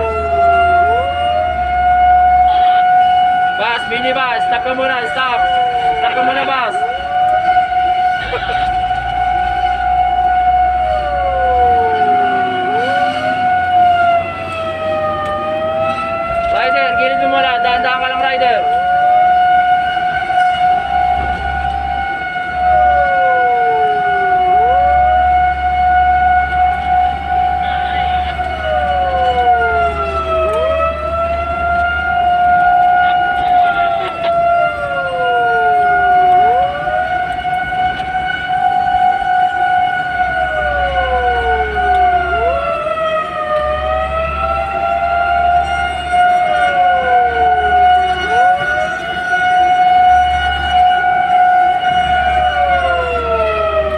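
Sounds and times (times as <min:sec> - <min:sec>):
low engine rumble: 0:00.0 - 0:53.9
steady high siren tone: 0:00.0 - 0:53.9
wailing siren: 0:00.0 - 0:53.9.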